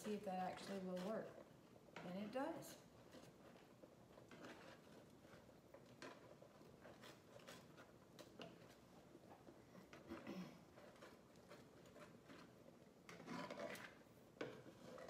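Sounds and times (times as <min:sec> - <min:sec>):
spatula scraping a skillet: 0:00.0 - 0:15.0.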